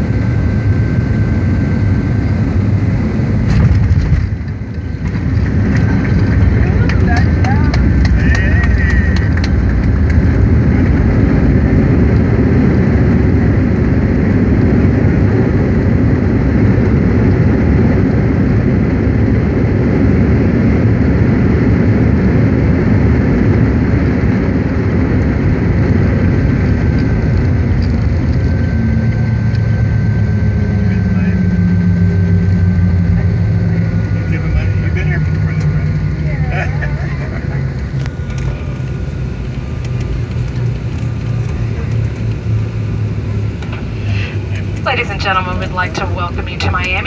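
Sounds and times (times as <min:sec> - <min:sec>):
airplane cabin rumble and rush: 0:00.0 - 0:47.0.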